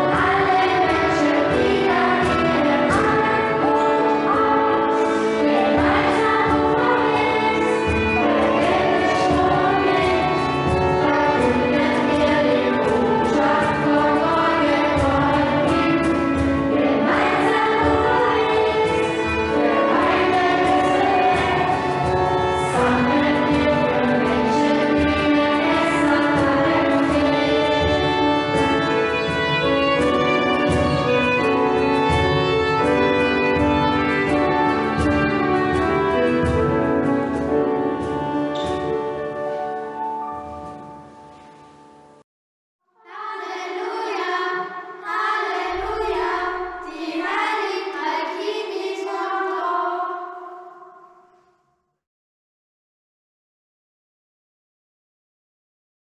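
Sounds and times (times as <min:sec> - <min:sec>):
children singing a carol: 0:00.0 - 0:38.9, 0:43.0 - 0:51.3
accompanying instruments: 0:00.0 - 0:42.2, 0:43.1 - 0:50.4.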